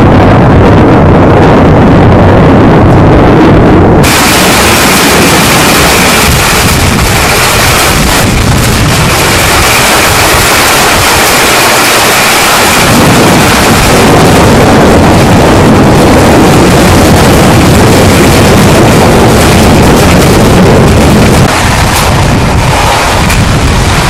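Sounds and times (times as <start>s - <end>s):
rushing storm noise: 0.0s - 24.0s
thunder rumble: 0.0s - 24.0s.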